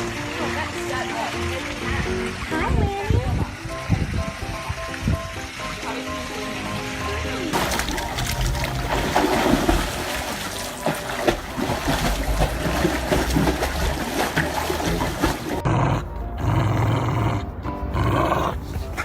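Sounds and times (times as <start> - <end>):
water splashing and sloshing: 0.0 - 16.4.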